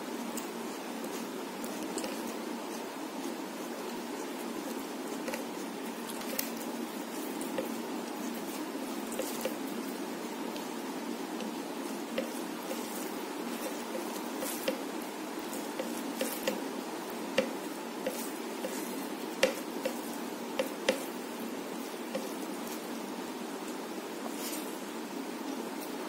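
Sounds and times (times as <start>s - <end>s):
fingers mixing rice on plate: 0.0s - 24.8s
background hiss: 0.0s - 26.0s.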